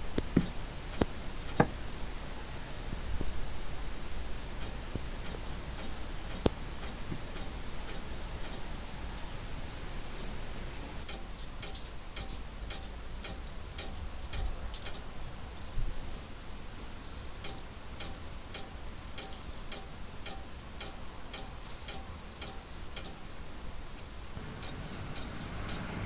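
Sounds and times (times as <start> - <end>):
tv sharp high-pitched ticks: 0.0 - 15.0, 17.4 - 23.2, 24.4 - 26.0.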